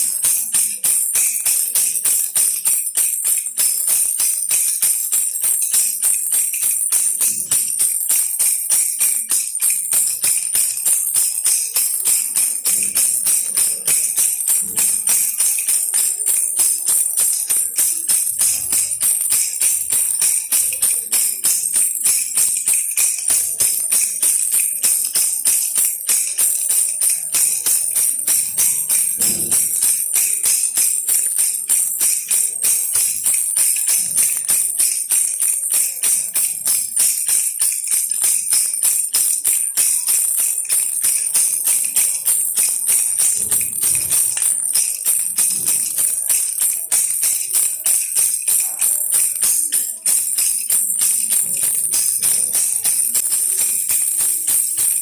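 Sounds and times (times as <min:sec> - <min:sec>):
baby rattle shaken: 0:00.0 - 0:55.0.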